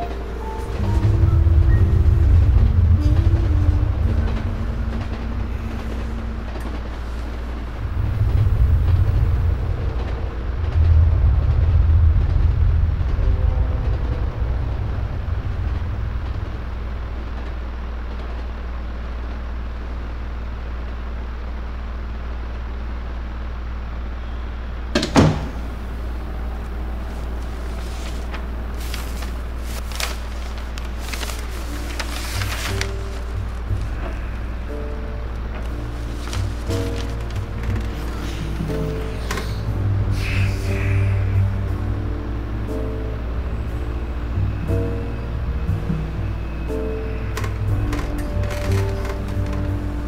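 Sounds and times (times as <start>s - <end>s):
low rumbling ambience: 0.0s - 50.0s
steady low hum: 0.0s - 50.0s.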